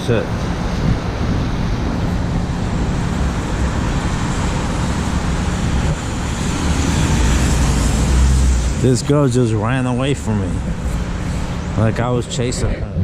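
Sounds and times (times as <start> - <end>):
passing motor vehicles: 0.0 - 13.0.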